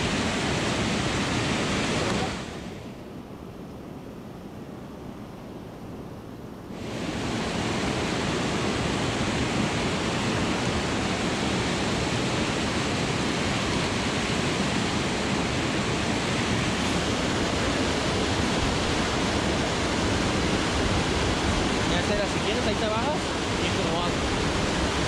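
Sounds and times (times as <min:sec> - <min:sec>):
creek water rushing: 0:00.0 - 0:25.0.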